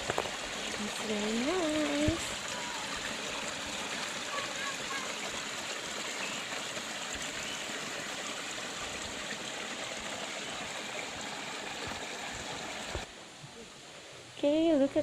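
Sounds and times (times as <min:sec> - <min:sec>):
running water rushing: 0:00.0 - 0:14.4.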